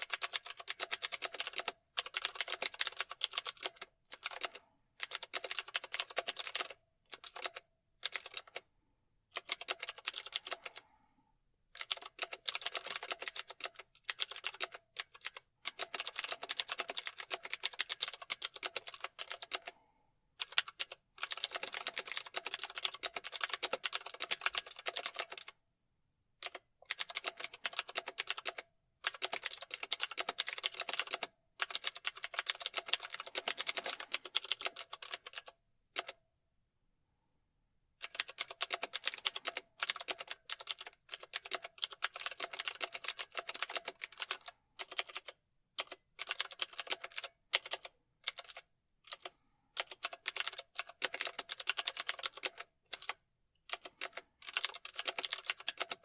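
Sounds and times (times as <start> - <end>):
typing on computer keyboard: 0.0 - 8.7, 9.3 - 10.9, 11.8 - 19.8, 20.4 - 25.6, 26.4 - 36.2, 38.0 - 56.0.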